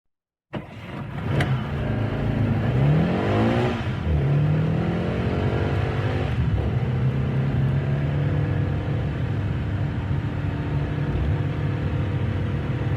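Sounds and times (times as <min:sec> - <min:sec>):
sports car engine accelerating: 0:01.1 - 0:12.9.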